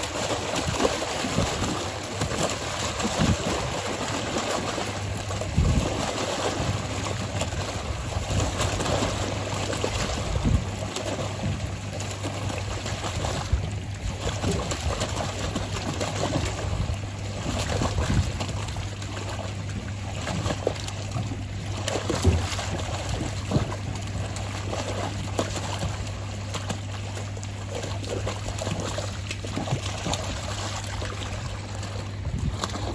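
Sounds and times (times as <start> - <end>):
steady low hum: 0.0 - 32.9
water gushing and splashing: 0.0 - 32.9.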